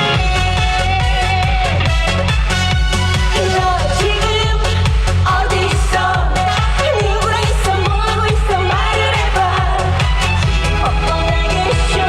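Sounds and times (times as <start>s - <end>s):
woman singing: 0.0s - 1.8s, 3.3s - 12.0s
electronic dance backing track: 0.0s - 12.0s.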